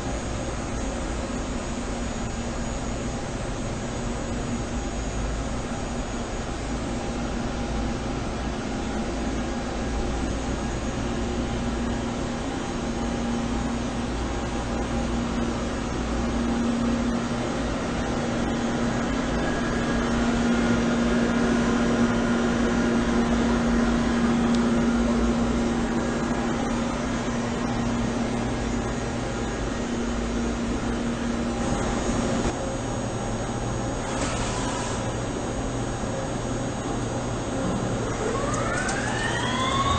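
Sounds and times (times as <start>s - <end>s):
machinery humming with whine: 0.0s - 39.9s.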